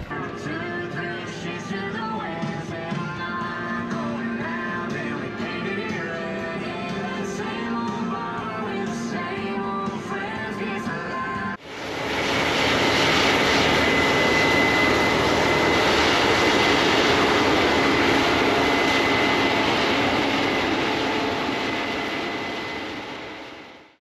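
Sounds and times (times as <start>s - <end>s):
combine harvester running: 0.0s - 10.0s, 11.6s - 24.0s.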